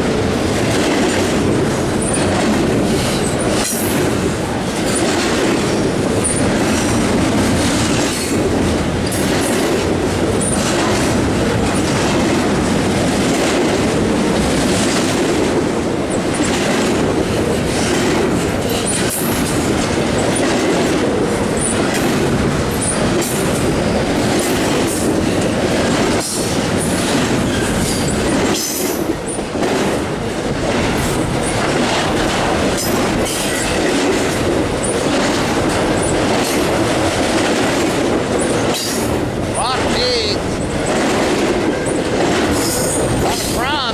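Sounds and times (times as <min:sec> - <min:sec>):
train wheels rumbling: 0:00.0 - 0:43.9.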